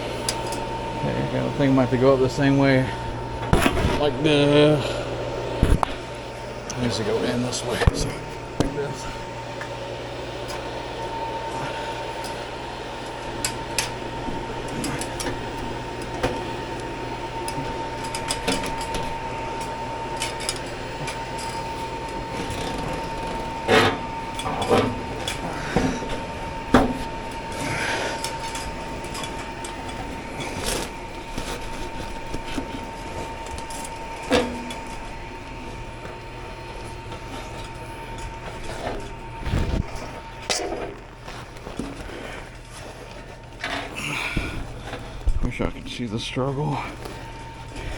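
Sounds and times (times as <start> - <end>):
mechanical hum with whine: 0.0 - 47.9.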